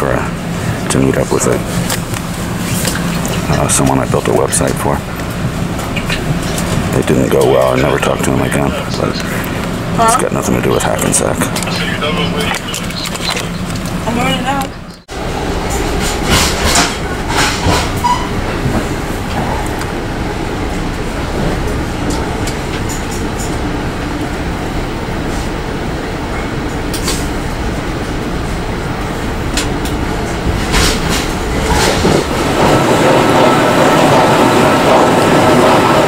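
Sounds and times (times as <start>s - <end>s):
train ride rumble: 0.0s - 36.0s.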